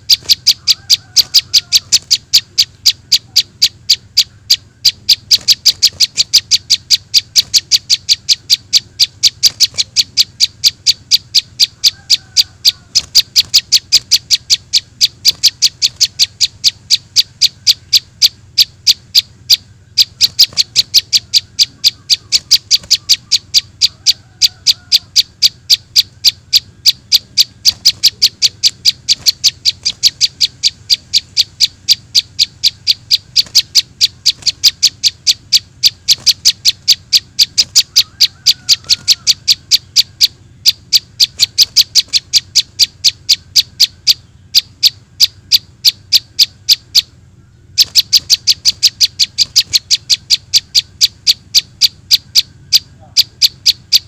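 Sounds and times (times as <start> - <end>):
faint bird calls: 0.0 - 54.0
high sharp bird chips: 0.0 - 54.0.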